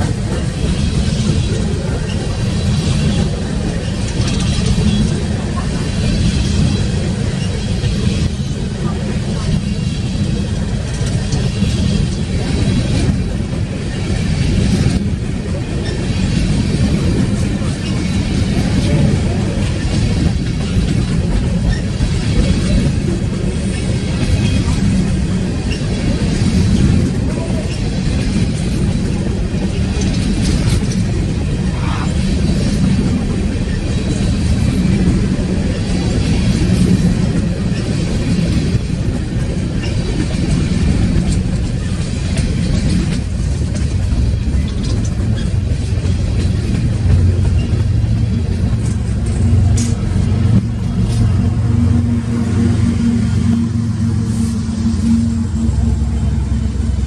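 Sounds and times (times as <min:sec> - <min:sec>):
rail noise hiss: 0:00.0 - 0:57.0
train wheels rumbling on rail: 0:00.0 - 0:57.0.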